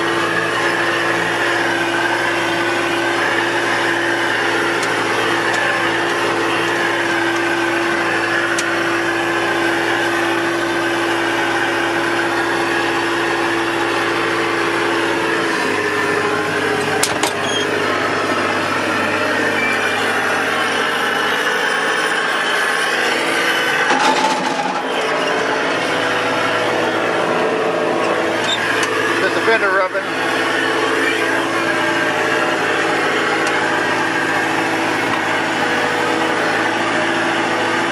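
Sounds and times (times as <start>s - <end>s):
small vehicle engine running: 0.0s - 37.9s.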